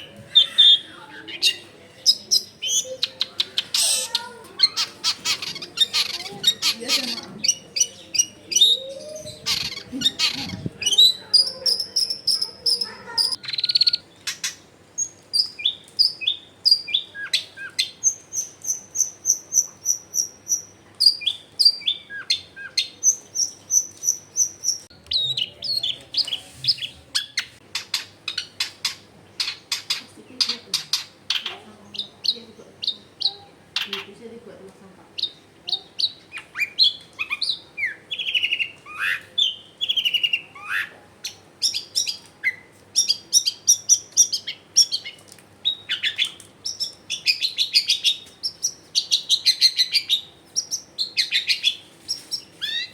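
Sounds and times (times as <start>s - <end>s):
bird song harsh chatter: 0.0s - 34.5s, 35.2s - 52.9s.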